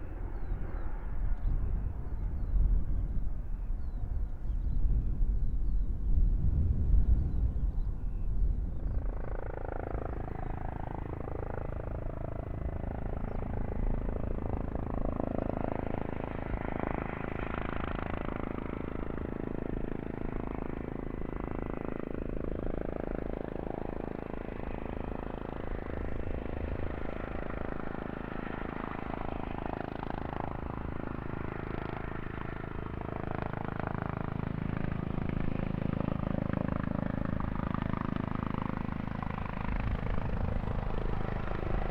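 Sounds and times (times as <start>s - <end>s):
aircraft engines running: 0.0s - 41.9s.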